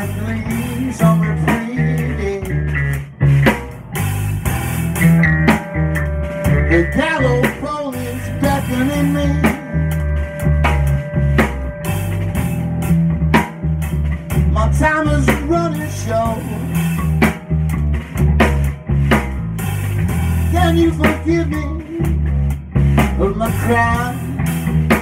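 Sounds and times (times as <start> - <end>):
drum kit: 0.0 - 25.0
guitar playing: 0.0 - 25.0.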